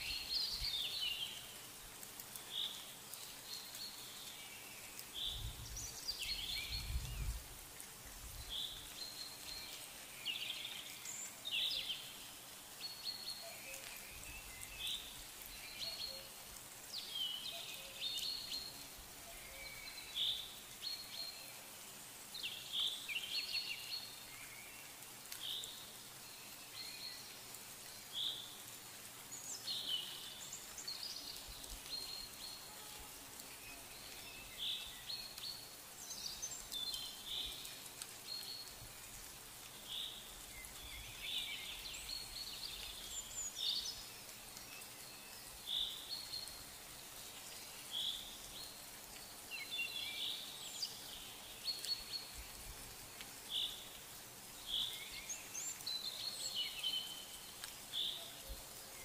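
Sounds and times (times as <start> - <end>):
faint steady hiss: 0.0 - 59.0
small birds chirping: 0.0 - 59.0.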